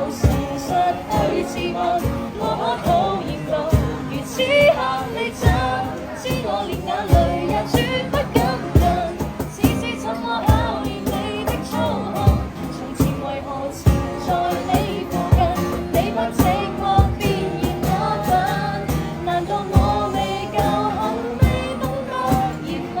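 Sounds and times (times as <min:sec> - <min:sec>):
pop song with singing voice: 0:00.0 - 0:23.0.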